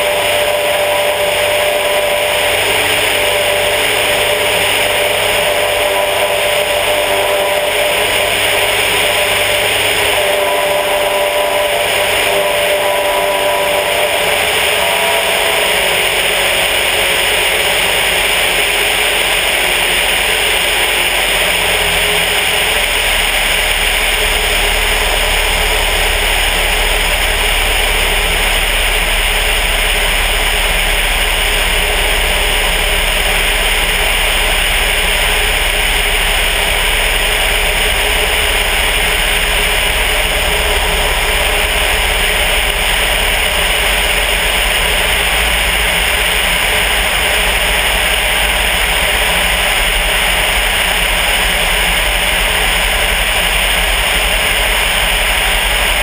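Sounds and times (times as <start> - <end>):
aircraft engine and propeller: 0.0 - 56.0
deep rumble: 0.0 - 56.0.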